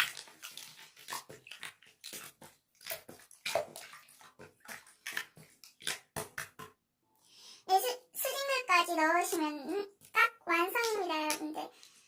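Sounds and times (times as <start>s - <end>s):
slime squelching: 0.0s - 6.9s, 8.2s - 12.0s.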